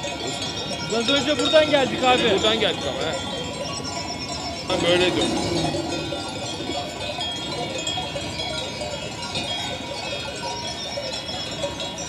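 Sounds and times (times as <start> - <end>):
sheep bells tinkling: 0.0 - 12.0.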